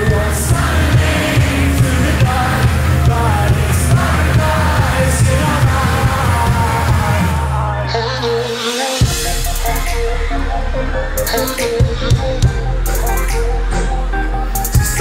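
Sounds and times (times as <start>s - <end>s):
driving drum beat: 0.0s - 7.7s, 8.6s - 10.4s, 11.2s - 13.7s, 14.6s - 15.0s
heavy bass: 0.0s - 15.0s
live indie pop band: 0.0s - 15.0s
melodic vocals: 0.0s - 15.0s.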